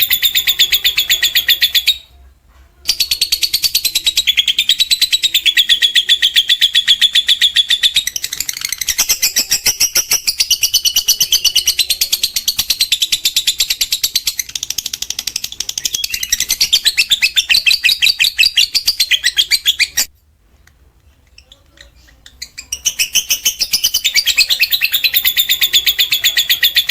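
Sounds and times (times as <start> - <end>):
lovebird shrill chattering song: 0.0 - 2.1, 2.9 - 20.1, 21.3 - 26.9.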